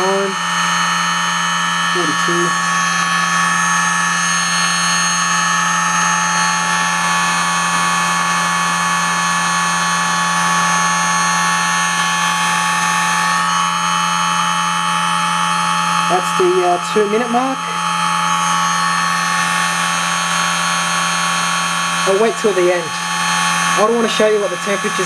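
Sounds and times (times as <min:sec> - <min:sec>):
electric motors whining: 0:00.0 - 0:25.0
hum: 0:00.0 - 0:25.0.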